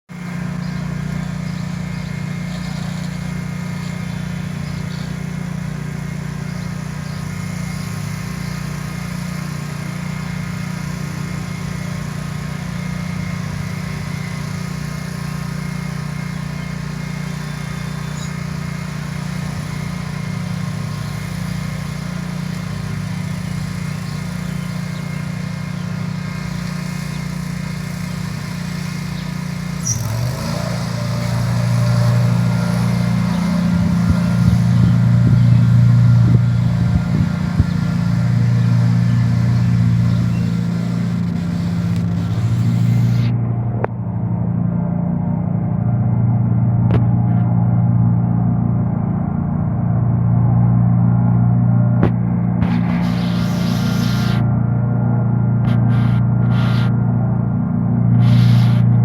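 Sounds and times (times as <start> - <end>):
mower engine running loud: 0.1 - 59.0.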